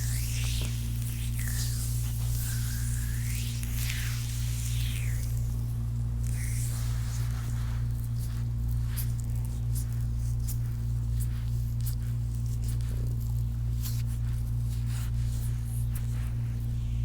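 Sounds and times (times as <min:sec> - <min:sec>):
hands rubbing skin: 0:00.0 - 0:16.8
steady low hum: 0:00.0 - 0:17.0.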